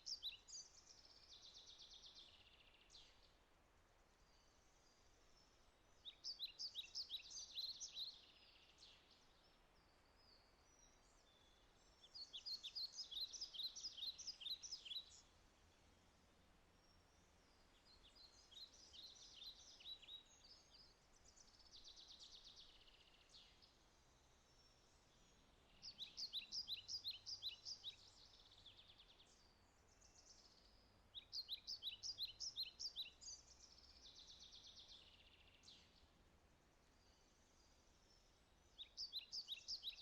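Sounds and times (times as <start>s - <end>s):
songbird singing with buzzy trill: 0.0s - 40.0s.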